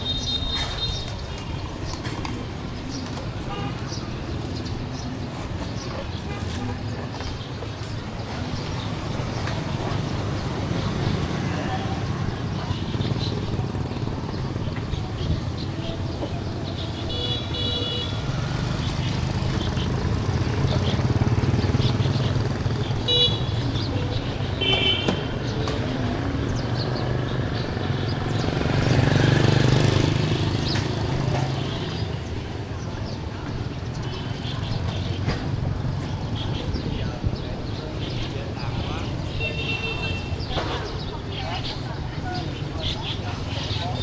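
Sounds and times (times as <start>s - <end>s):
motorbike engines passing: 0.0s - 44.0s.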